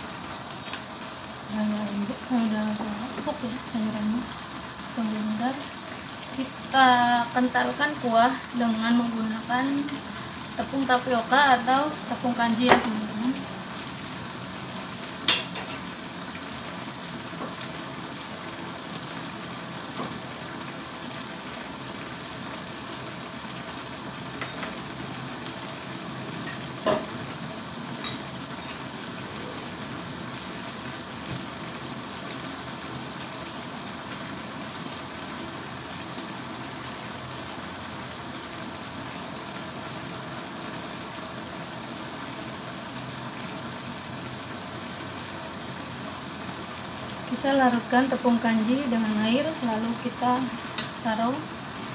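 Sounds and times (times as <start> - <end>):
food sizzling in a frying pan: 0.0 - 51.9.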